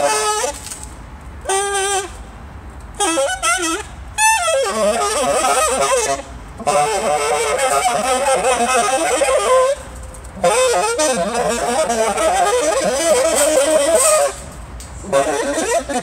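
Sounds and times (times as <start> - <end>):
saxophone playing free jazz: 0.0 - 0.6, 1.4 - 2.3, 2.9 - 16.0.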